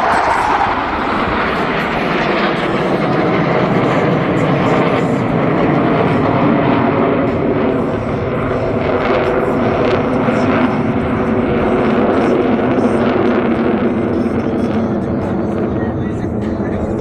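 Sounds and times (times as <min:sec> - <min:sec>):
loud jet noise: 0:00.0 - 0:17.0.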